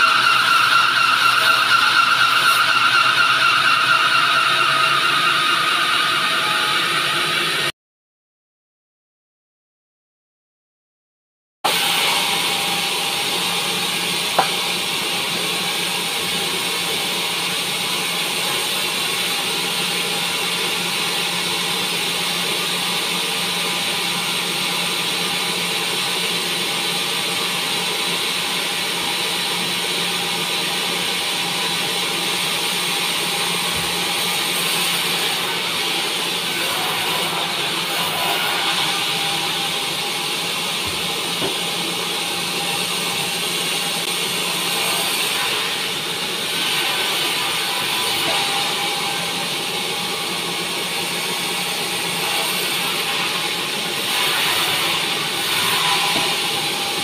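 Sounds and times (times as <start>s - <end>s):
band saw running: 0.0s - 7.7s, 11.7s - 57.0s.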